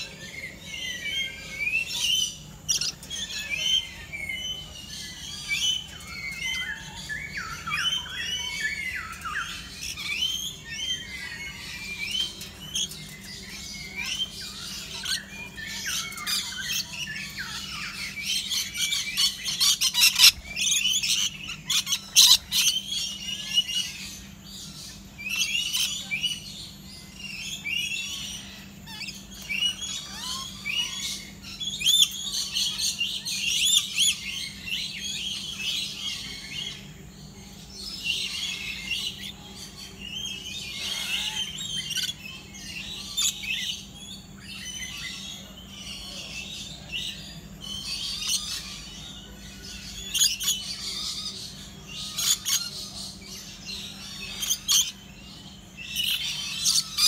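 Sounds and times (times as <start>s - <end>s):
parrots screeching and chattering: 0.0s - 36.9s, 37.5s - 57.0s.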